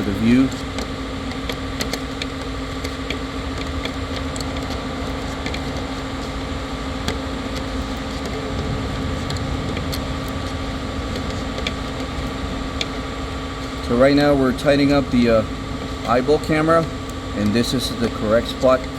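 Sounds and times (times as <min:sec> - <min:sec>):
machine hum: 0:00.0 - 0:18.9
small parts clicking: 0:00.0 - 0:18.9.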